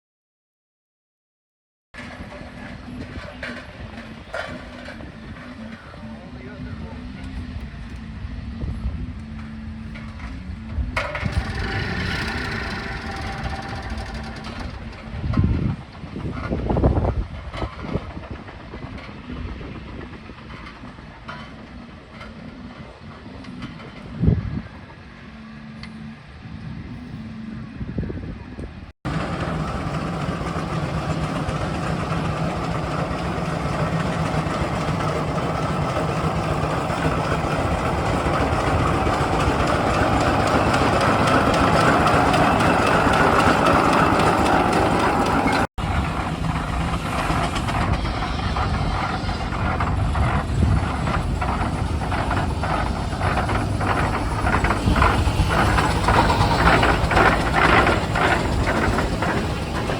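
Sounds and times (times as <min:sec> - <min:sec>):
heavy engine machinery running: 0:02.0 - 0:26.5, 0:29.1 - 0:59.9.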